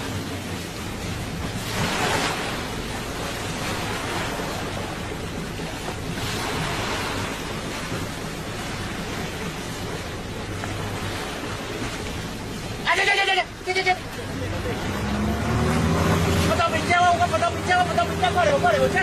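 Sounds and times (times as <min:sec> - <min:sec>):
boat engine hum: 0:00.0 - 0:19.0
water splashing against boat hull: 0:00.0 - 0:19.0.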